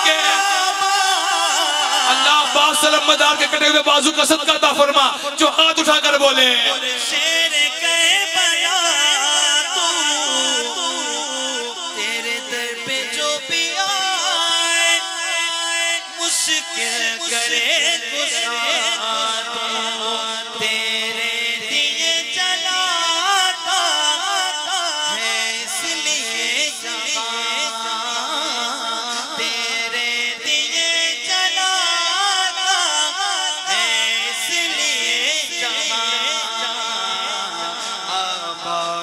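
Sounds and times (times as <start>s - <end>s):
man singing ornamented melody: 0.0s - 39.0s.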